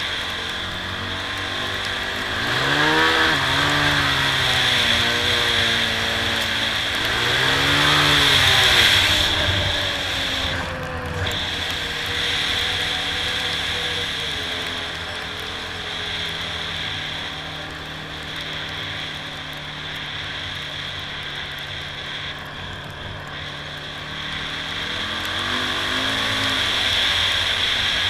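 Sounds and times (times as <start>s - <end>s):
quad engine revving: 0.0s - 28.0s.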